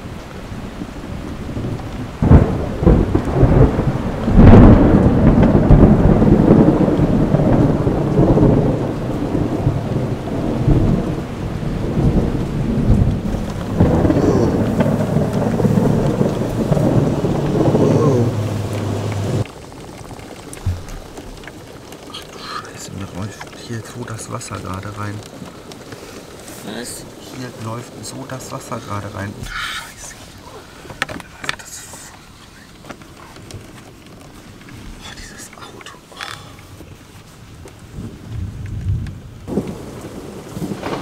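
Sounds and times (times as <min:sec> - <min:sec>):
thunder cracks: 0:00.0 - 0:31.1, 0:37.9 - 0:41.0
rolling thunder: 0:00.0 - 0:31.2, 0:37.4 - 0:41.0
steady rain: 0:00.0 - 0:41.0.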